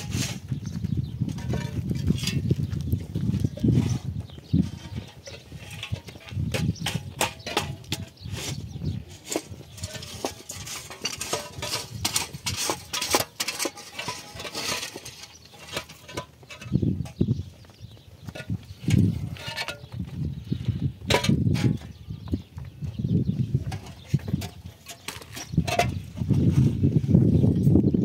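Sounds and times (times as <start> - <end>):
concrete blocks knocking and scraping: 0.0 - 27.0.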